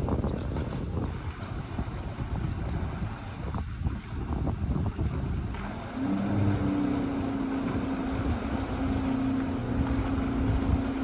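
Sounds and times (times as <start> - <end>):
jet ski engine humming: 0.0 - 11.0
wind rumbling on microphone: 0.0 - 11.0.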